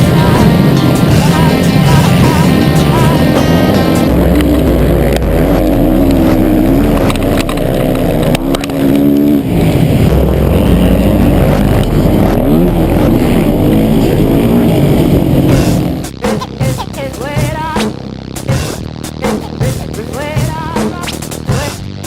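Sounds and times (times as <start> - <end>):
motocross bike engine revving: 0.0 - 21.8.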